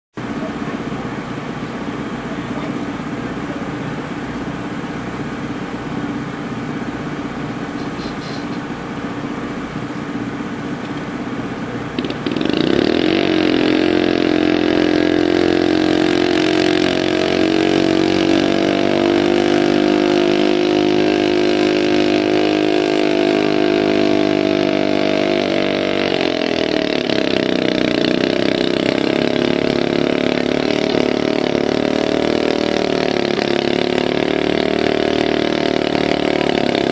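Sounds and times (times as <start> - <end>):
garden tractor engine running: 0.2 - 36.9.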